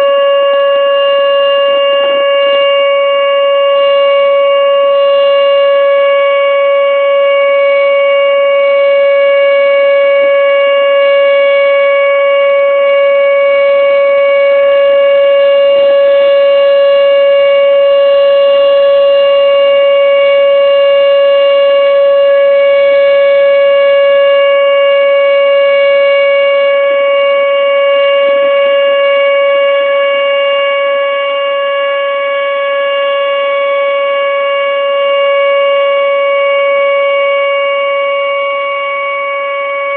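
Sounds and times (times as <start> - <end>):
tornado warning siren: 0.0 - 39.9.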